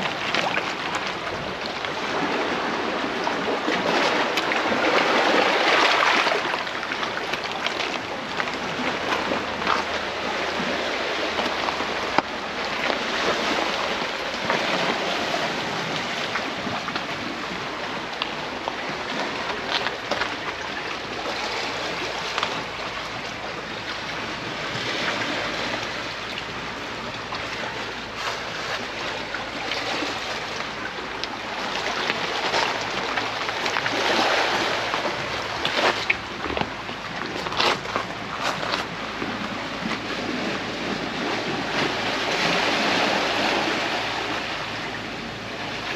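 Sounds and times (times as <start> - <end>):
surf washing over rocks: 0.0 - 45.9.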